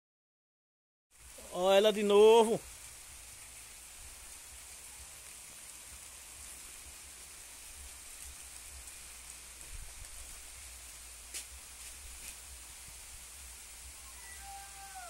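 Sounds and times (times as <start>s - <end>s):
steady rain hissing: 1.1s - 15.0s.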